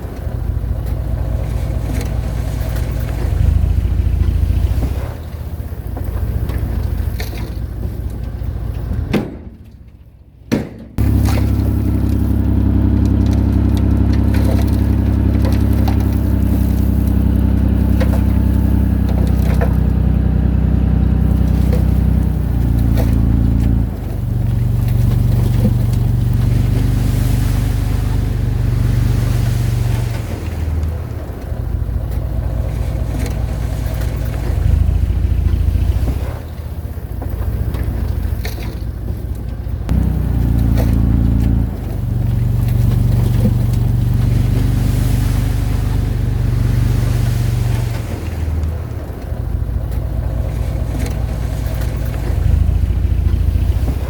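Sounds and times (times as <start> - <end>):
diesel engine of earthmoving machine: 0.0 - 10.4, 11.0 - 54.0.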